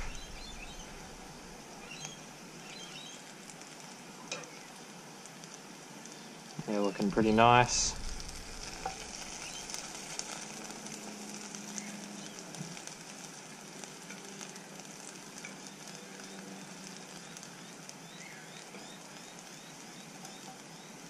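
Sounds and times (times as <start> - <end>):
potatoes sizzling in oil: 0.0 - 21.0.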